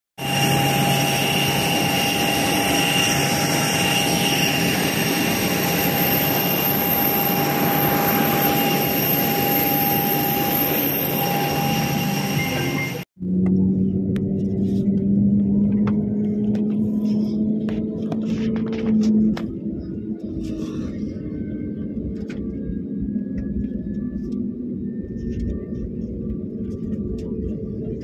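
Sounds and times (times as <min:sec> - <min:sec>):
jet engines running: 0:00.2 - 0:28.0.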